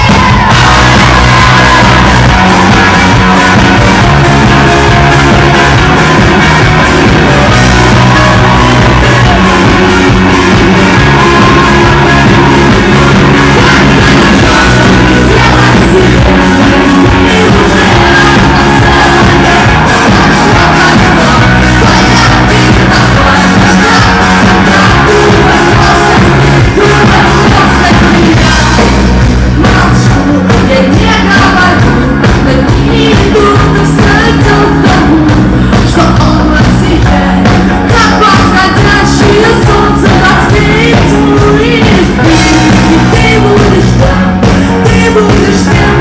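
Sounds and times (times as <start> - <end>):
woman singing lead vocal: 0.0 - 46.0.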